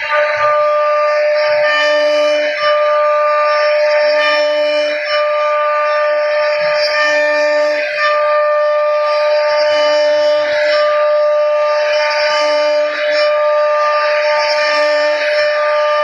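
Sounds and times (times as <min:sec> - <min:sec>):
bit cutting wood: 0:00.0 - 0:16.0
router spindle whining: 0:00.0 - 0:16.0.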